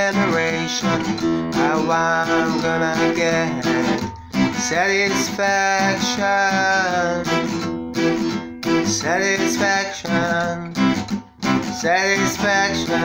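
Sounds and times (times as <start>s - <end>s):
acoustic guitar strumming: 0.0s - 13.0s
man singing: 0.0s - 13.0s.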